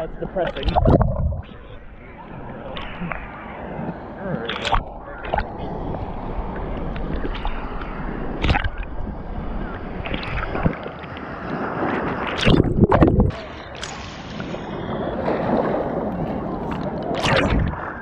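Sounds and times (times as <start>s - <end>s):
water splashes: 0.0s - 1.8s, 2.6s - 18.0s
sea water sloshing and gurgling: 0.0s - 18.0s.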